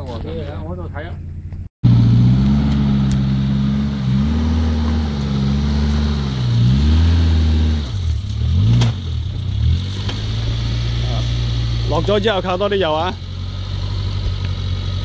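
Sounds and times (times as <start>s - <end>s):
off-road vehicle engine revving: 1.8s - 15.0s.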